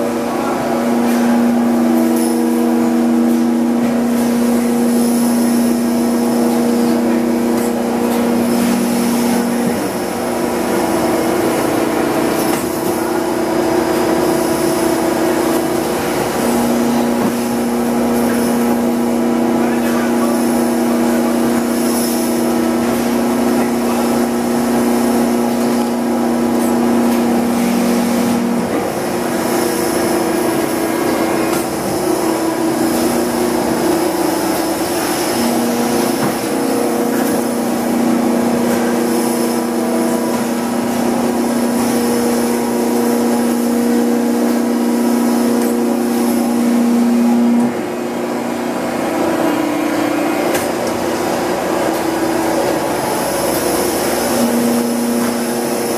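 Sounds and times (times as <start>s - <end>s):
hydraulic machinery humming: 0.0s - 55.9s.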